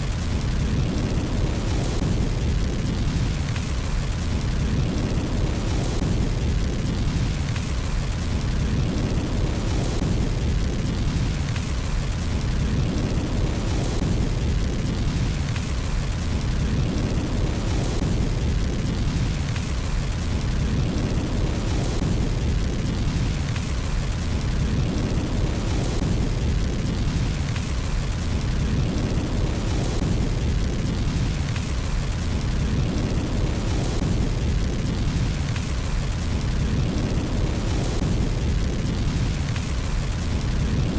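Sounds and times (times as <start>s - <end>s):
fire crackling: 0.0s - 40.9s
fire rumbling: 0.0s - 40.9s.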